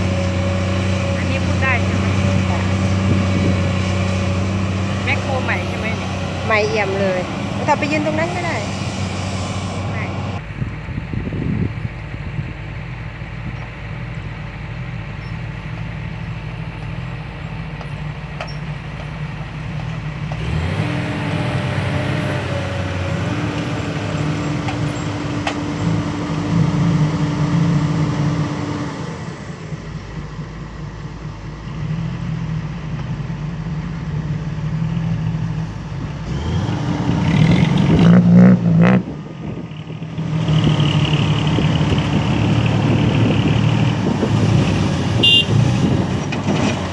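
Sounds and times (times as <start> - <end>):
excavator diesel engine under load: 0.0 - 46.9.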